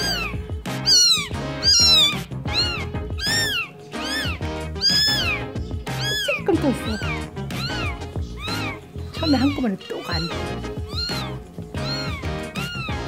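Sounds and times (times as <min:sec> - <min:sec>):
kitten mewing: 0:00.0 - 0:13.0.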